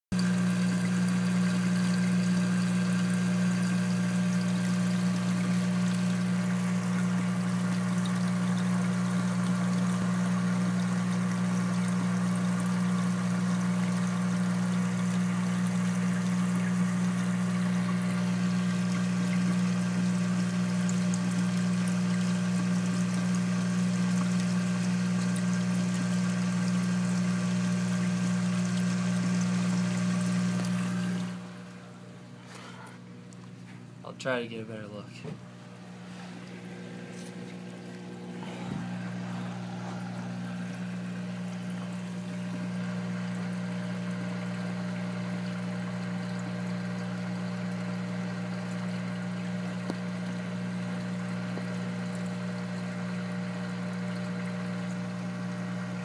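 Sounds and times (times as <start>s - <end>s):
pump humming: 0.1s - 56.0s
water splashing and trickling: 0.1s - 56.0s.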